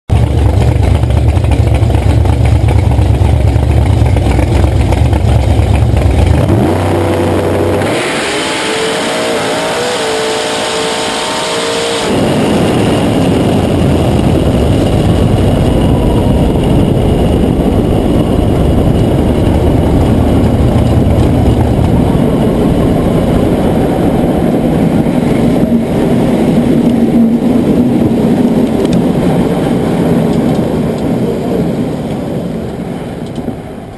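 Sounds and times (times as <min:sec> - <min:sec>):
drag car engine revving: 0:00.1 - 0:31.2
rushing wind: 0:00.1 - 0:33.9.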